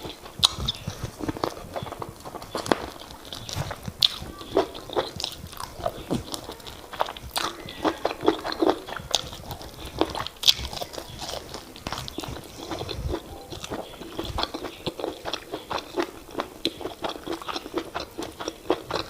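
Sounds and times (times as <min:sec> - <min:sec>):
mouth smacks: 0:00.0 - 0:19.0
wet chewing: 0:00.0 - 0:19.0.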